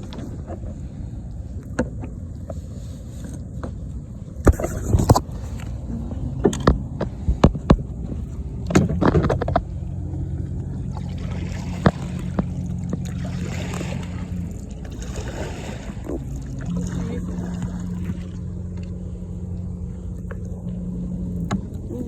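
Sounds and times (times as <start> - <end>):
low drone: 0.0 - 22.0
water sloshing against kayak: 0.0 - 22.0.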